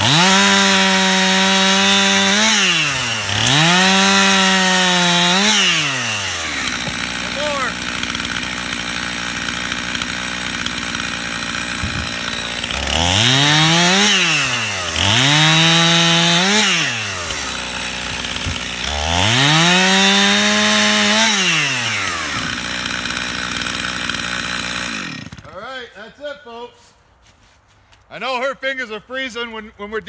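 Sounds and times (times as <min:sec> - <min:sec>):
chainsaw cutting through limb: 0:00.0 - 0:25.7
chainsaw idling and revving: 0:00.0 - 0:25.9.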